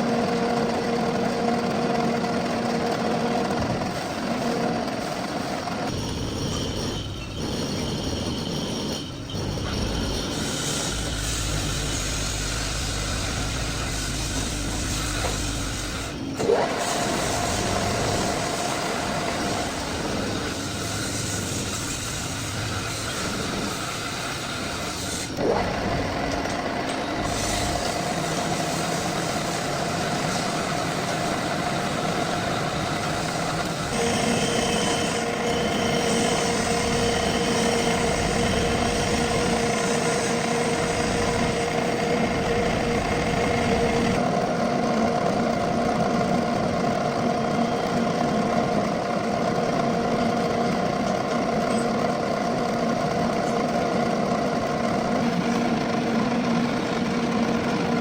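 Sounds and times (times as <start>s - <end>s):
metal lathe humming: 0.0s - 58.0s.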